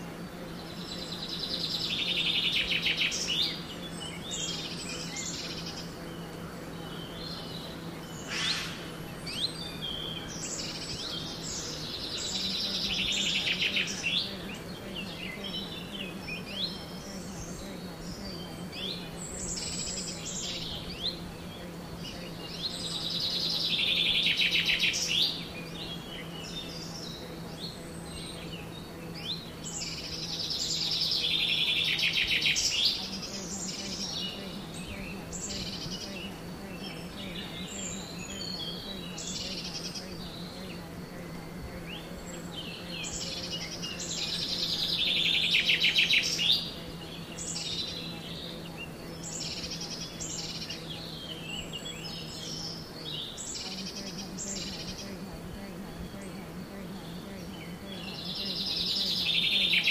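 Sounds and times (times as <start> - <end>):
birds chirping: 0.0 - 59.9
low steady hum: 0.0 - 59.9.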